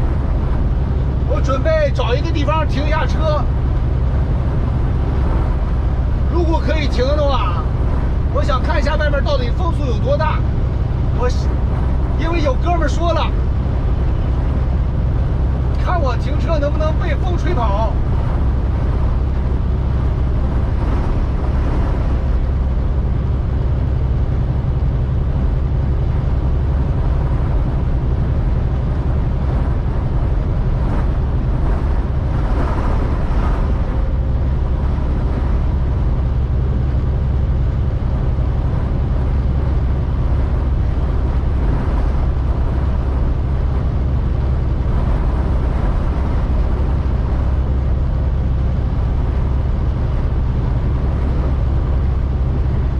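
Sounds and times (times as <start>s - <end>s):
road noise: 0.0s - 52.9s
strong wind against truck: 0.0s - 52.9s
truck engine drone: 0.0s - 52.9s.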